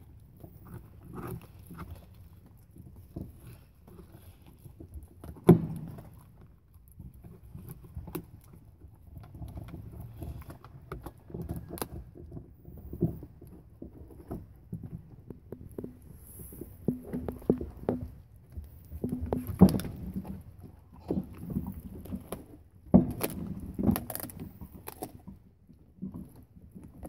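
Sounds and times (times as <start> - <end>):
dog gnawing on bone: 0.1 - 27.0.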